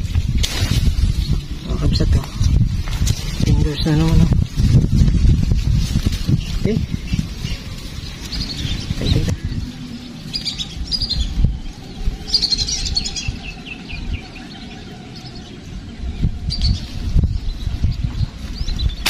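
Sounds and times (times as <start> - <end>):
birds chirping: 0.0 - 19.0
low uneven rumble: 0.0 - 19.0.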